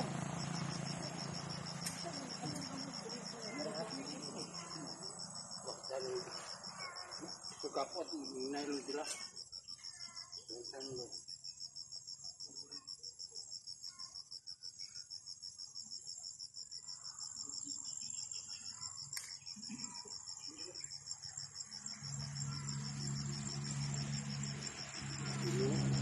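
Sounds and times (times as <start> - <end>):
insects pulsing trill: 0.0 - 26.0
steady high insect buzz: 0.0 - 26.0.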